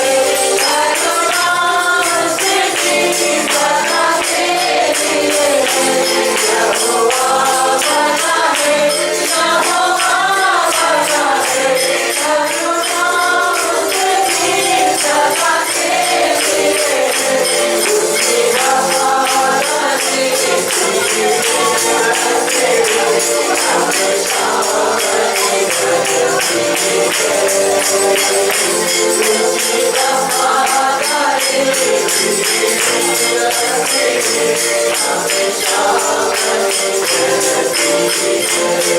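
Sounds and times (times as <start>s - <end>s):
tambourine shaken: 0.0s - 38.9s
voices singing worship music: 0.0s - 38.9s.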